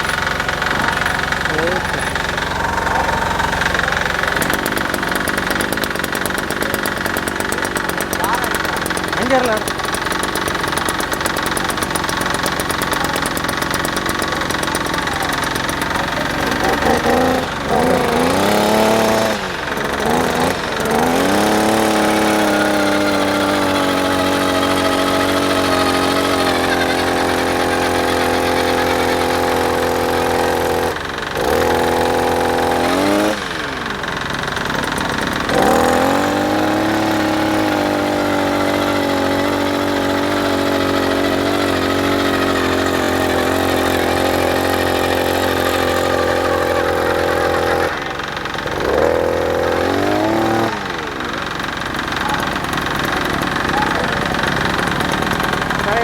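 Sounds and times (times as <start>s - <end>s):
two-stroke auger engine running: 0.0s - 56.0s.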